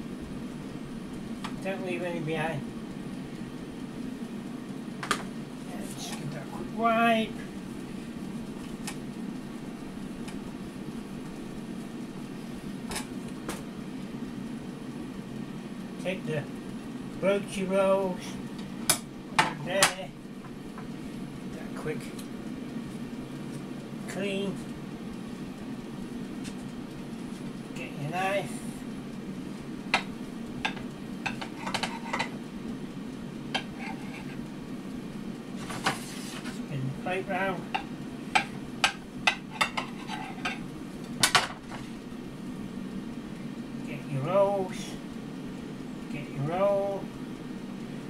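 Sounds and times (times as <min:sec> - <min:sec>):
air fryer fan humming: 0:00.0 - 0:48.0.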